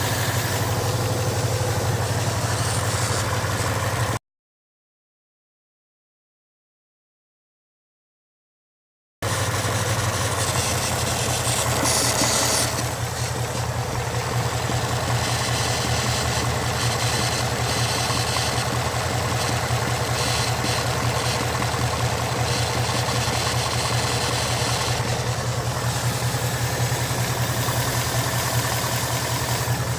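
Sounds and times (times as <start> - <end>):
car engine idling: 0.0 - 4.2, 9.3 - 29.9
mechanical clacking from engine: 0.0 - 4.2, 9.3 - 29.9.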